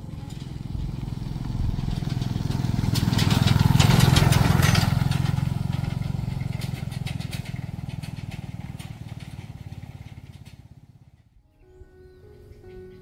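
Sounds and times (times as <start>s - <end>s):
motorbike engine running: 0.0s - 11.4s.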